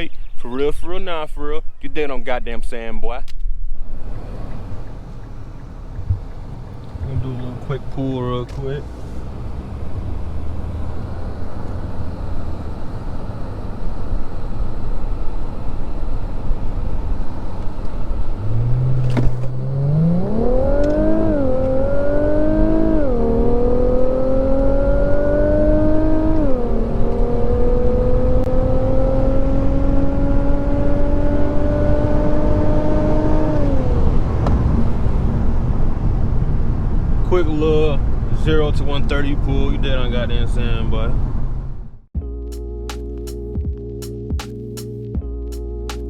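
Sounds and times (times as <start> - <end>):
car engine accelerating hard: 4.0 - 42.0.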